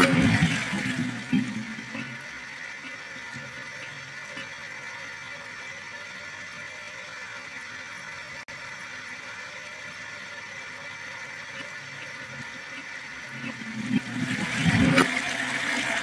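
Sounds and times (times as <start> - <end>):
toilet flushing water rush: 0.0 - 16.0.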